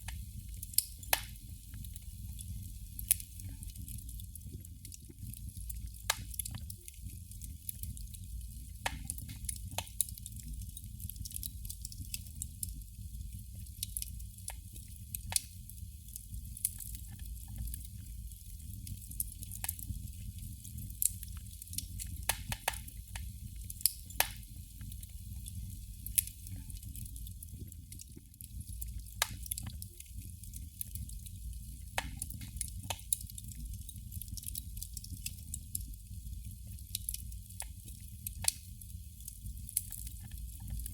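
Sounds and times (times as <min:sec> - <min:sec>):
candle flame crackling: 0:00.0 - 0:40.9.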